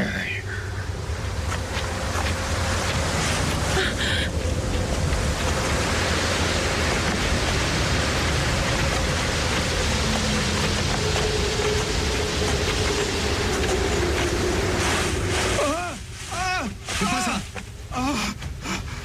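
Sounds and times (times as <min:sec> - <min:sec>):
low rumble: 0:00.0 - 0:19.0
steady rushing noise: 0:00.0 - 0:19.0.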